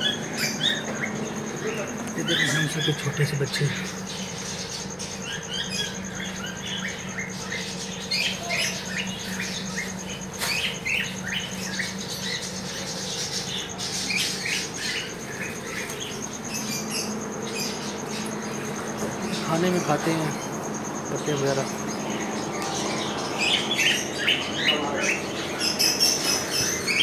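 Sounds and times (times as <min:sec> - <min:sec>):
small animals squeaking: 0:00.0 - 0:27.0
steady low hum: 0:00.0 - 0:27.0.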